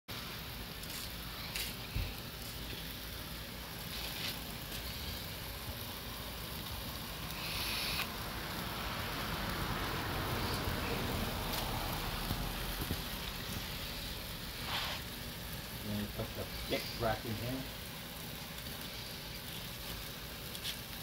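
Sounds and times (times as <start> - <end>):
meat sizzling on a grill: 0.1 - 21.0.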